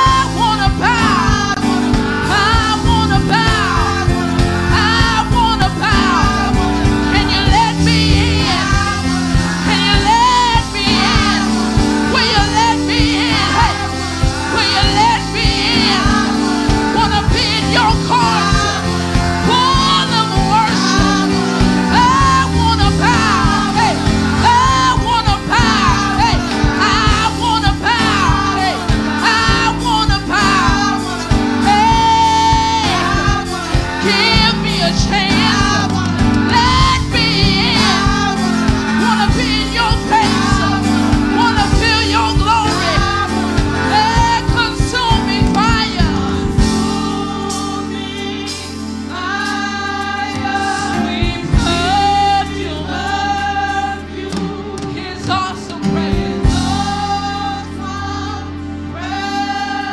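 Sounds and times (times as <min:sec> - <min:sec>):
keyboard and beat accompaniment: 0:00.0 - 0:59.9
women singing gospel: 0:00.0 - 0:59.9.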